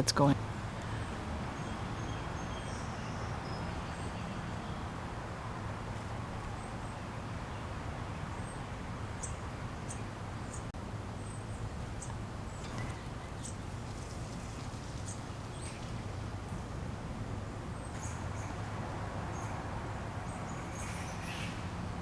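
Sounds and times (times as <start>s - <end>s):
low outdoor hum: 0.0s - 22.0s
songbirds chirping: 0.0s - 22.0s.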